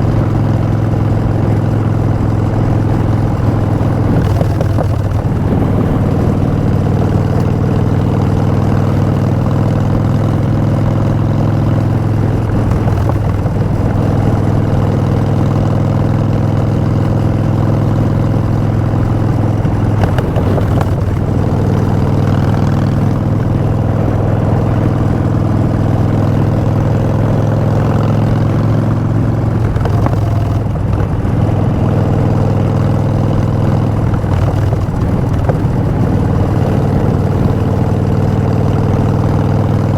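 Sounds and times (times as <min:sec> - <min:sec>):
motorcycle engine deep note: 0:00.0 - 0:39.9.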